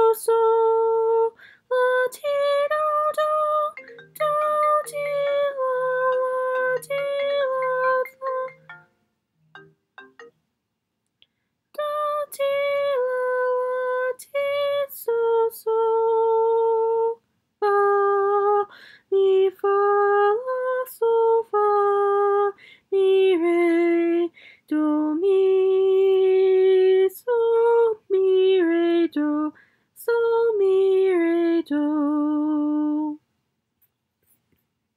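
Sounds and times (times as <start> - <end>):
woman singing unaccompanied: 0.0 - 8.9, 11.7 - 33.2.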